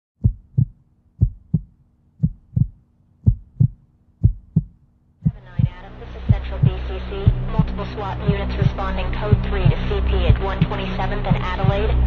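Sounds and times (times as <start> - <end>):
heartbeat thumps: 0.2 - 12.0.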